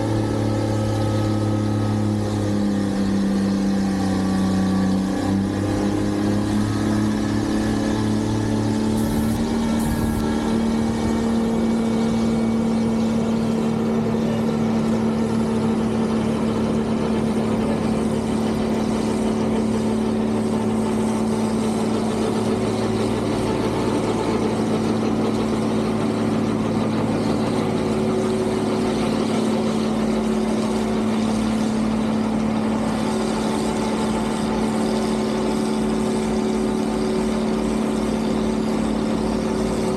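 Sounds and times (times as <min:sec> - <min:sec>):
snow removal machinery engines: 0:00.0 - 0:39.9.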